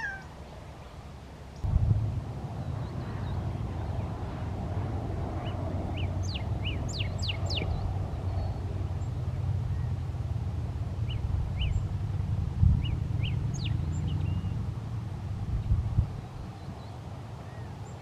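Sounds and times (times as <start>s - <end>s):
steady low rumble: 1.6s - 16.9s.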